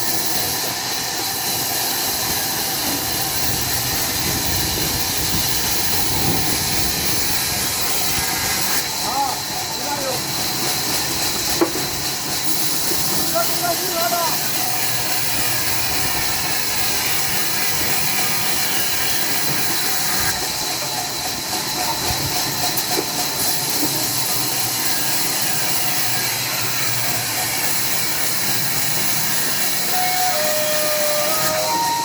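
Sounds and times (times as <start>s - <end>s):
sawmill saw running: 0.0s - 32.0s.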